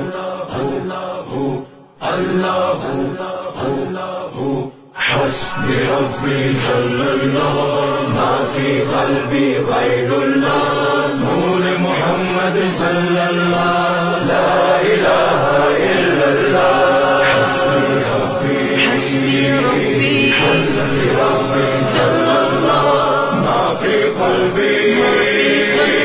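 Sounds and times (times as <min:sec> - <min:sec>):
voices chanting long notes: 0:00.0 - 0:26.0.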